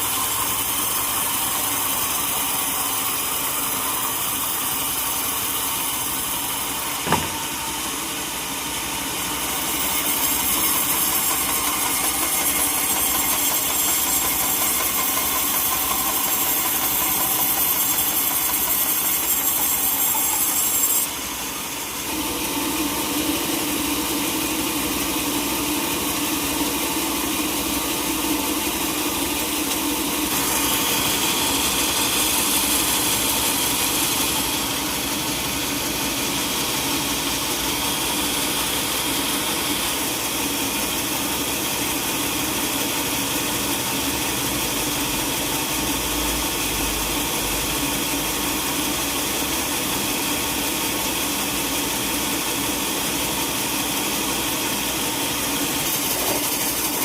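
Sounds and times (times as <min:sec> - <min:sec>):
saw noise: 0:00.0 - 0:57.0.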